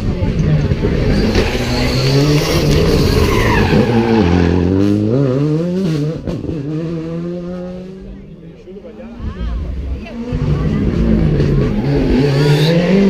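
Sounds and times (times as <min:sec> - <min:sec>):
rally car engine revving: 0:00.0 - 0:08.4, 0:09.0 - 0:13.0.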